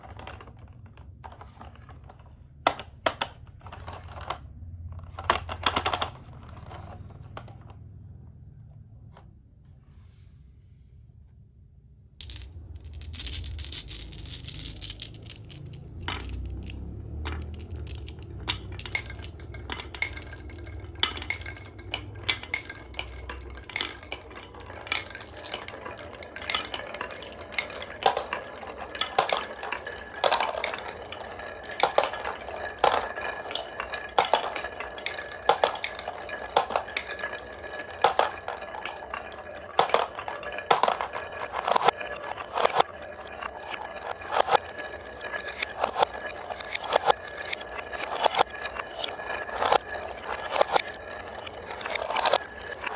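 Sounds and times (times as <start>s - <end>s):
marbles clacking on wooden track: 0.0s - 8.0s, 12.2s - 52.9s.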